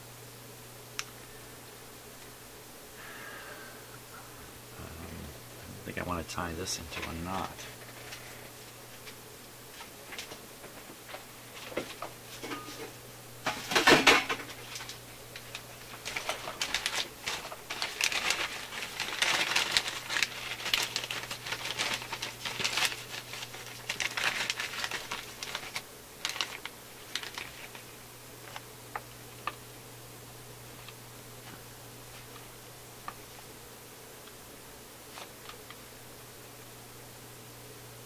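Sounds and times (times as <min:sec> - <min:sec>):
faint steady low hum: 0:00.0 - 0:38.0.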